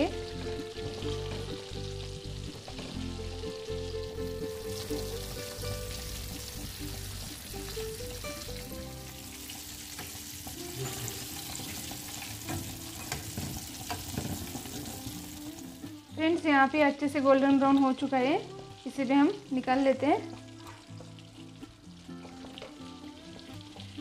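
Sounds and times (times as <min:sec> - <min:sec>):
chicken deep-frying in oil: 0:00.0 - 0:15.9, 0:17.2 - 0:24.0
soft background music: 0:00.0 - 0:24.0.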